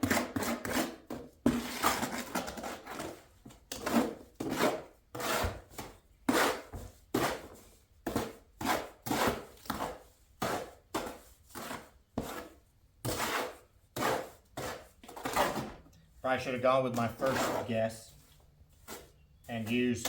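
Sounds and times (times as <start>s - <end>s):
tool scraping through mortar: 0.0s - 20.0s.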